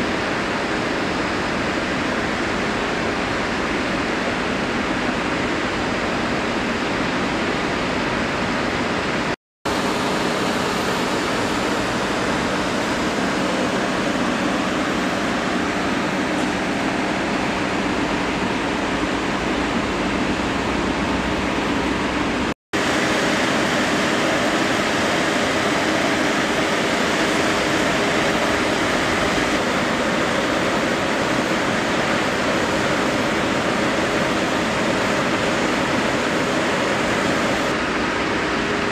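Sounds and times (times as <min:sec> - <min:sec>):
jet aircraft idling roar: 0:00.0 - 0:38.9.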